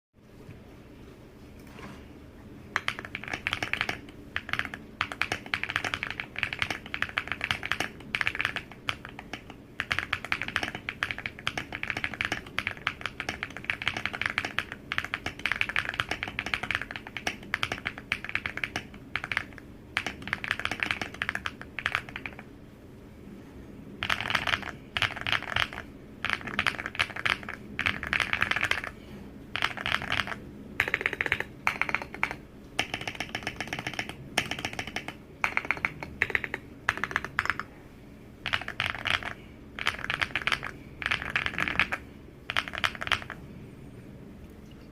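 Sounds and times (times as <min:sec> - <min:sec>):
mechanical keyboard typing: 0:02.8 - 0:22.5, 0:24.0 - 0:29.0, 0:29.6 - 0:37.7, 0:38.4 - 0:43.4.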